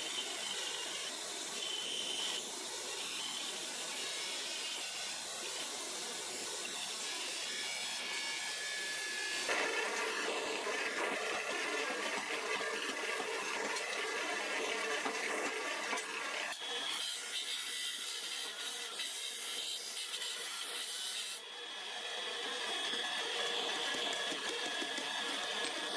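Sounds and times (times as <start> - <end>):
belt grinder whirring: 0.0 - 25.9
drill press boring: 0.0 - 25.9.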